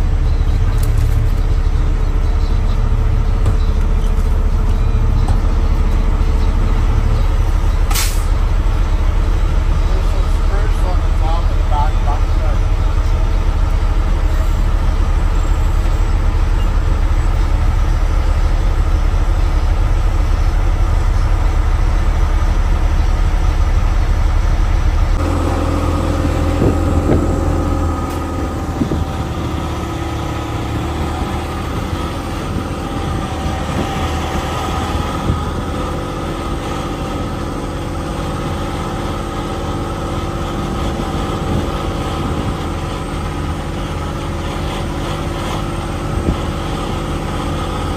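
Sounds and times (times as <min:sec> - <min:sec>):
diesel truck engine idling: 0:00.0 - 0:47.9
truck engine hum while moving: 0:00.0 - 0:47.9.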